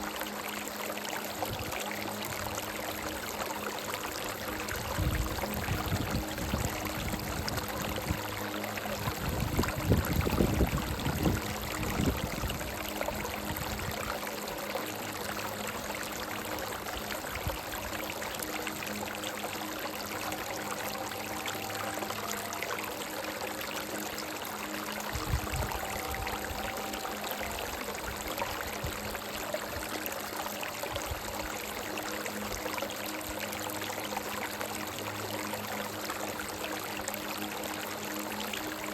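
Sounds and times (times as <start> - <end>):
soft sustained melody: 0.0 - 38.9
stream running over rocks: 0.0 - 38.9.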